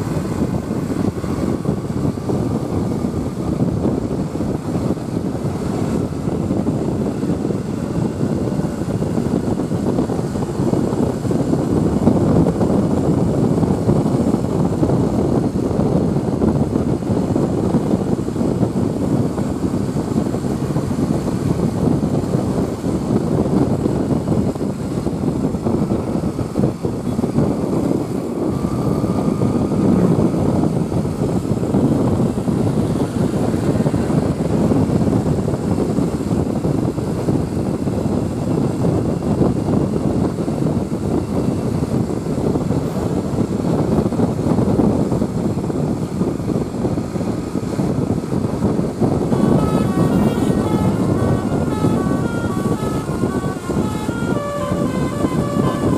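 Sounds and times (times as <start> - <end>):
road traffic engine noise: 0.0 - 55.9.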